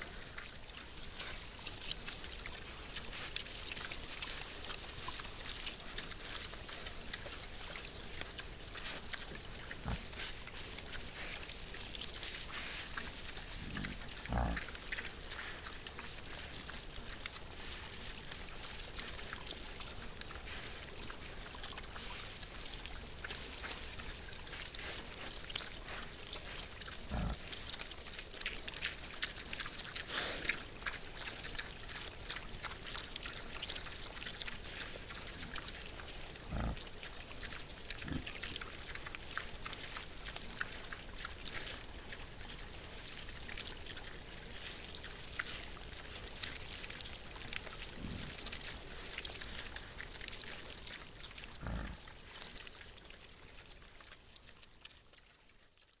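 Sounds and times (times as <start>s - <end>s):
boars rooting and chewing: 0.0s - 56.0s.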